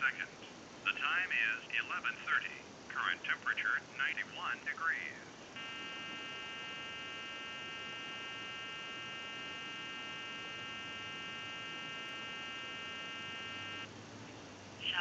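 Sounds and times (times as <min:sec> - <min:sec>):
telephone line hum: 0:00.0 - 0:15.0.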